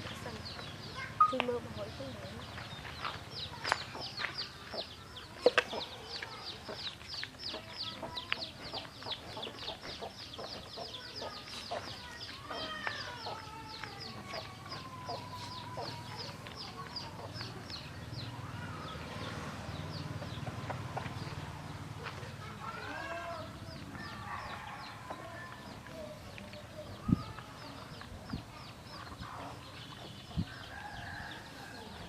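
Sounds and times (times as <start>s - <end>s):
chicks chirping: 2.2s - 21.5s, 23.6s - 31.5s
chickens clucking: 2.5s - 32.0s.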